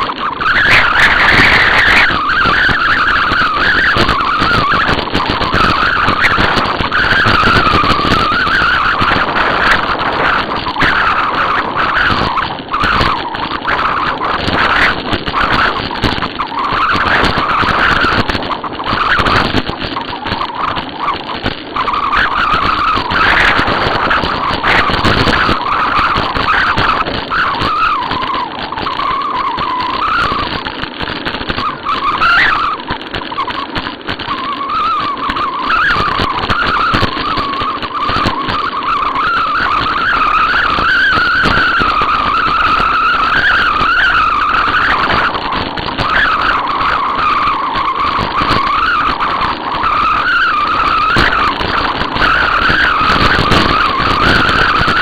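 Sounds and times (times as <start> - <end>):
high wavering whine: 0.0 - 55.0
wind and tyre rush: 0.0 - 55.0.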